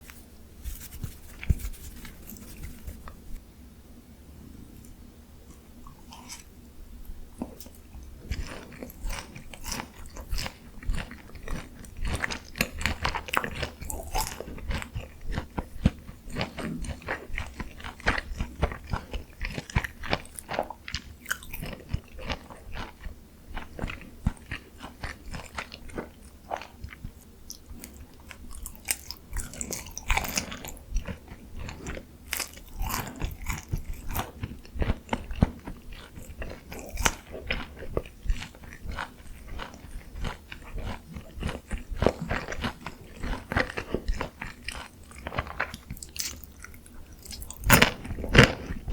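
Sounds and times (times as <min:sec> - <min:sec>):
crunchy chewing: 0:00.7 - 0:03.4, 0:04.8 - 0:06.7, 0:07.3 - 0:48.9.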